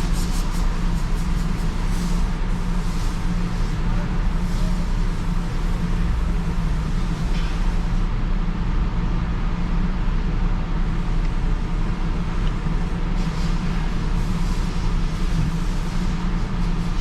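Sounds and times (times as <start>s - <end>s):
muffled car wash rumble: 0.0s - 17.0s.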